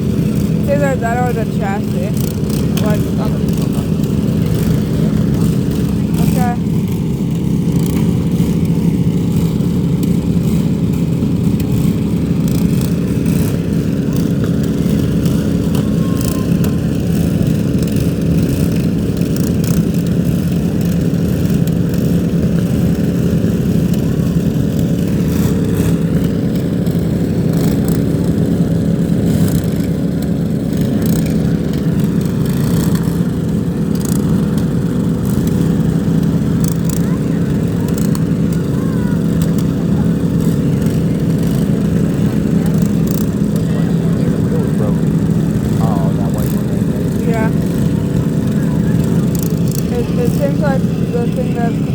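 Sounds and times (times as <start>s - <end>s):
lawn mower engines droning: 0.0s - 51.9s.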